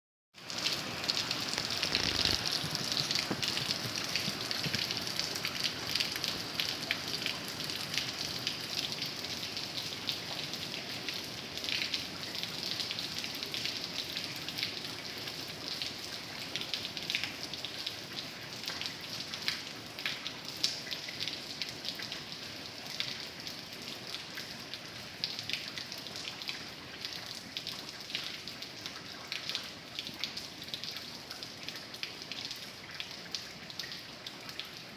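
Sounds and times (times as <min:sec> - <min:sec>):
raindrops ticking on a surface: 0:00.4 - 0:34.9
steady rain falling: 0:00.4 - 0:34.9.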